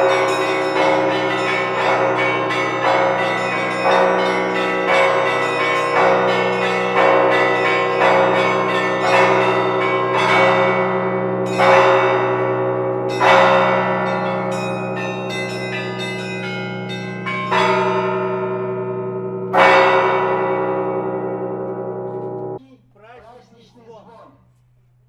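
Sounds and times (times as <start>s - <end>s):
church bells ringing: 0.0s - 22.6s.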